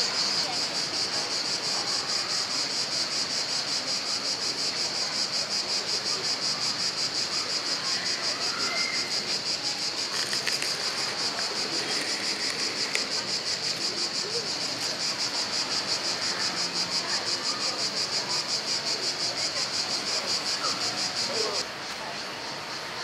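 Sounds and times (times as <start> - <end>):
cicadas pulsing buzz: 0.0 - 23.0.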